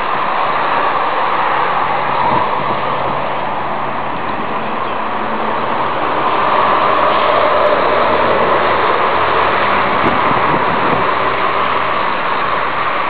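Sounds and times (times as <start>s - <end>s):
strong wind and turbine whoosh: 0.0s - 13.0s.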